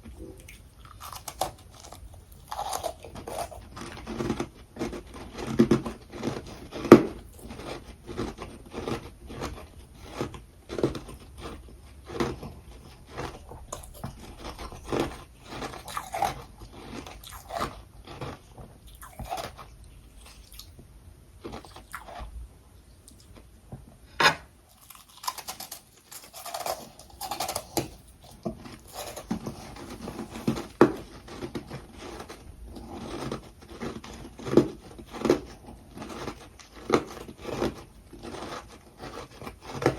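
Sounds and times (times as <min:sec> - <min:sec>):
crunching and chewing ice: 0:00.0 - 0:22.4, 0:24.7 - 0:39.9.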